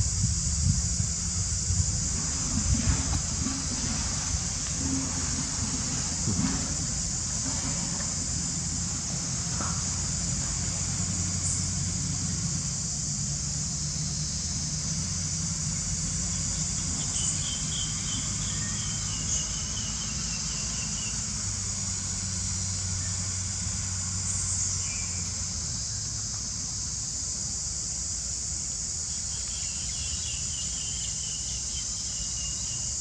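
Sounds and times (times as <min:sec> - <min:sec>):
insects chorus: 0:00.0 - 0:33.0
low steady hum: 0:00.0 - 0:33.0.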